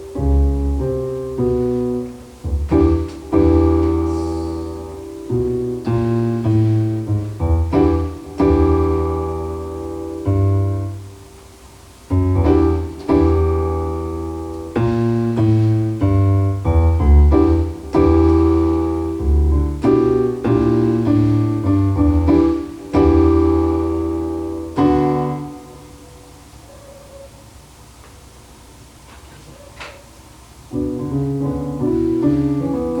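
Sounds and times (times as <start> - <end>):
slow piano chords: 0.0 - 33.0.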